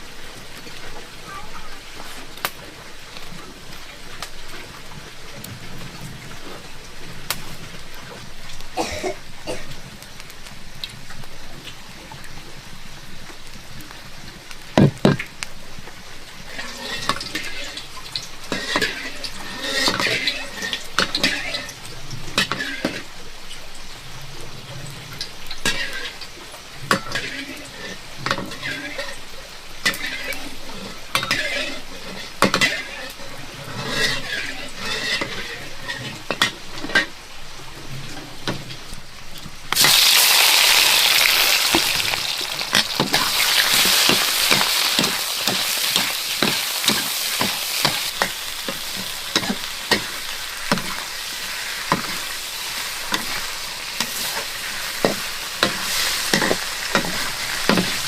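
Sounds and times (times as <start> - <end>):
food sizzling in hot oil: 0.0 - 58.0.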